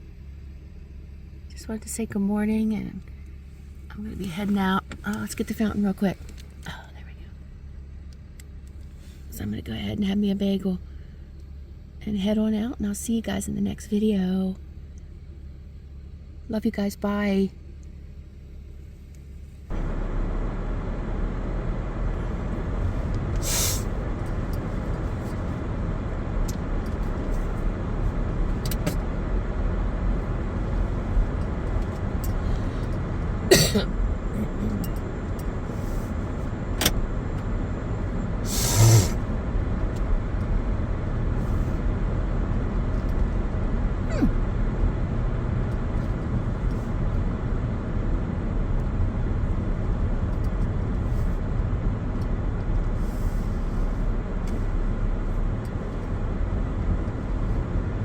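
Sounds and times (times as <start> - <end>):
car low rumble: 0.0 - 58.0.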